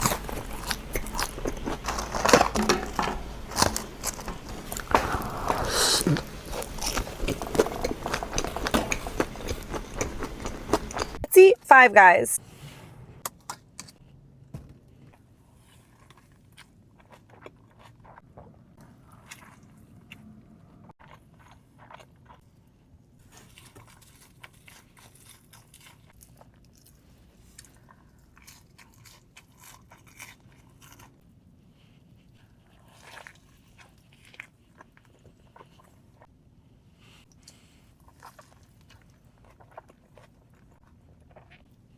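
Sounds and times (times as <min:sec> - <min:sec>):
person chewing crunchy food: 0:00.0 - 0:11.2, 0:15.1 - 0:36.4, 0:37.3 - 0:41.9.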